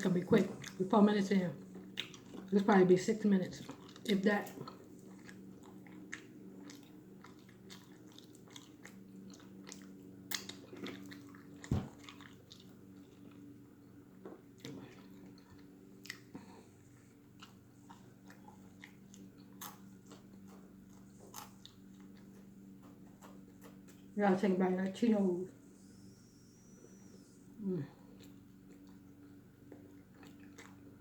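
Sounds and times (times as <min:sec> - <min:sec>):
person chewing and lip smacking: 0:00.0 - 0:24.1, 0:25.6 - 0:31.0
steady low hum: 0:00.0 - 0:31.0.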